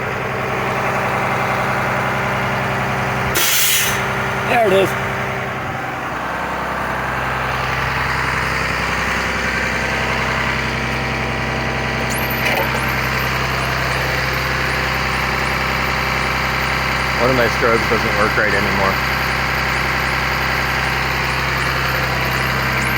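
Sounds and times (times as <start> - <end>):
bus engine idling: 0.0 - 22.9.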